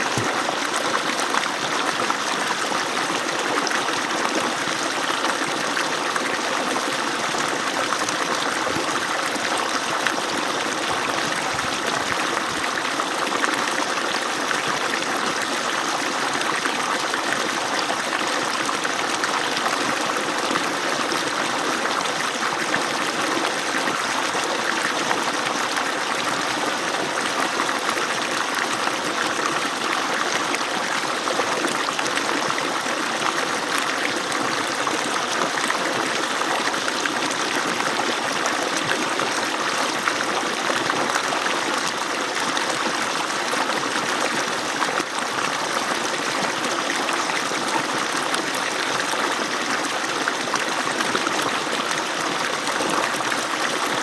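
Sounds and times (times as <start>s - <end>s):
water pouring from pump outlet: 0.0s - 54.0s.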